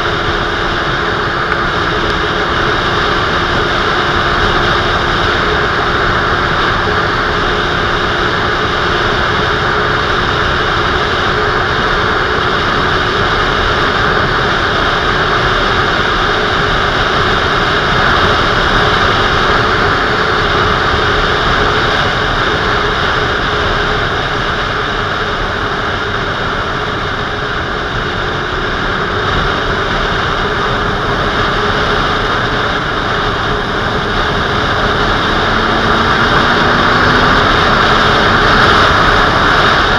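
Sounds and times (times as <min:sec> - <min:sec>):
motorcycle engine drone: 0:00.0 - 0:39.9
wind rushing on microphone: 0:00.0 - 0:39.9.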